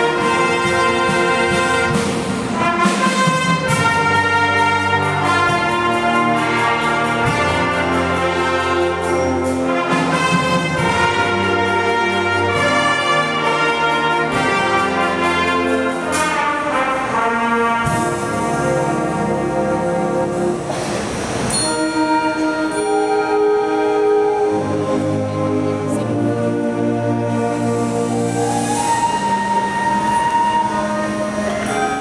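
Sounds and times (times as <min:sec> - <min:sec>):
concert band playing: 0:00.0 - 0:32.0.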